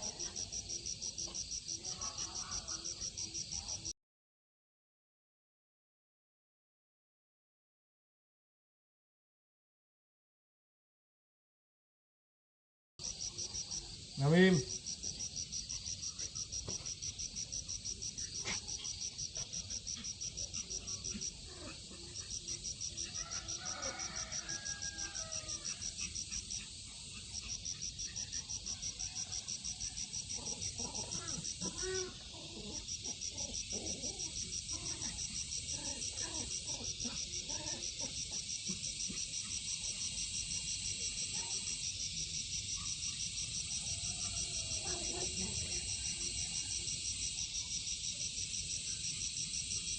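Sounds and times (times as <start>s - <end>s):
cricket trilling: 0.0s - 3.9s, 13.0s - 49.9s.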